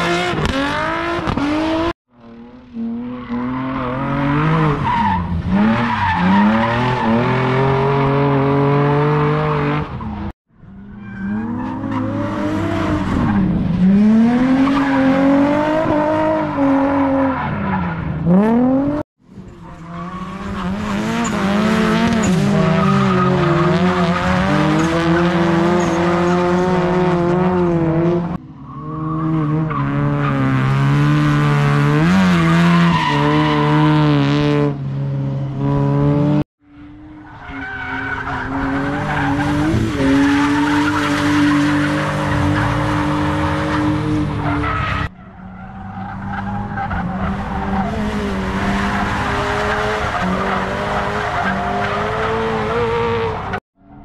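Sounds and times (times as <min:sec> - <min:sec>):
car engines revving: 0:00.0 - 0:53.6.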